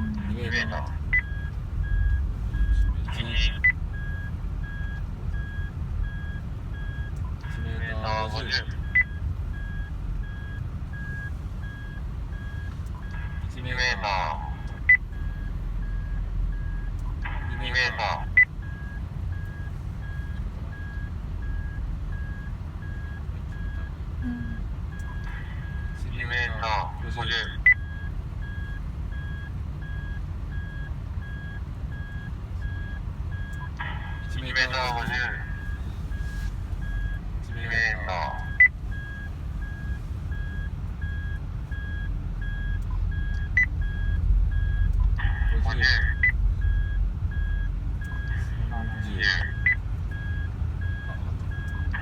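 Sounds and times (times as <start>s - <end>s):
car driving rumble: 0.0s - 52.0s
short electronic beeps: 0.0s - 52.0s.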